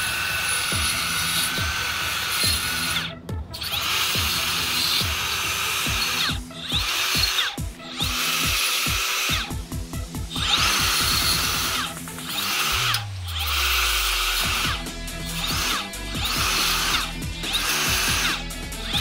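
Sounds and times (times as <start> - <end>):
angle grinder grinding metal: 0.0 - 19.0
background music with steady beat: 0.0 - 19.0.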